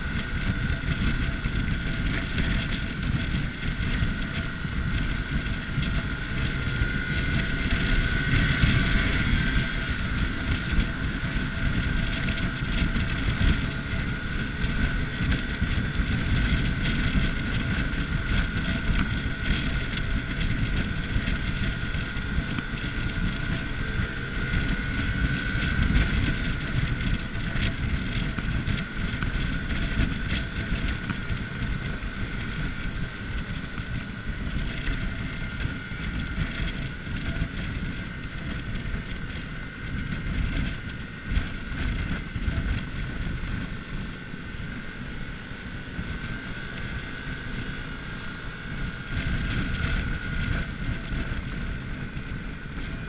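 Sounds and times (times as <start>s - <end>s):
scooter engine cruising: 0.0s - 53.0s
steady whine: 0.0s - 53.0s
wind rumble on microphone: 0.0s - 53.0s.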